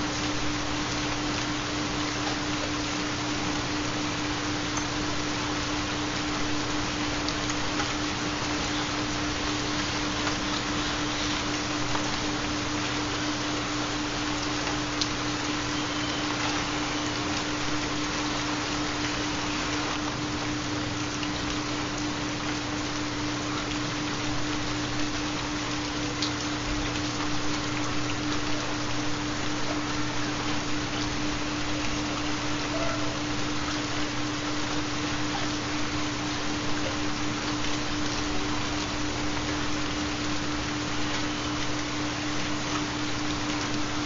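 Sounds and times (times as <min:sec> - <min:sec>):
dense rainfall: 0:00.0 - 0:44.0.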